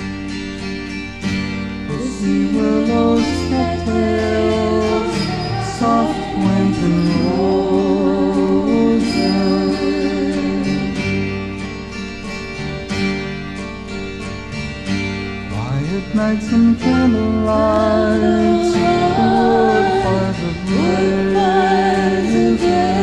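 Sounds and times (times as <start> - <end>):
folk guitars playing: 0.0 - 23.0.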